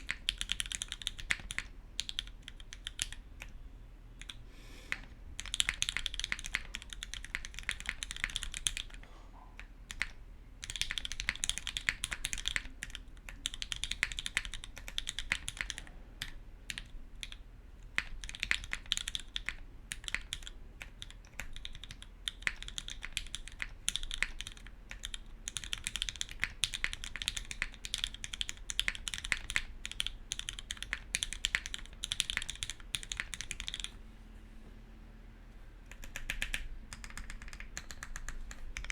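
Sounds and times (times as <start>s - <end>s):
mechanical keyboard typing: 0.0s - 3.6s, 4.2s - 9.0s, 9.6s - 34.0s, 35.9s - 38.9s.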